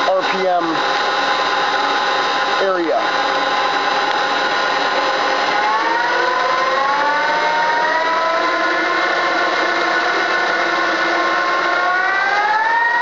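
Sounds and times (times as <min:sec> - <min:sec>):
lathe running with rising whine: 0:00.0 - 0:13.0.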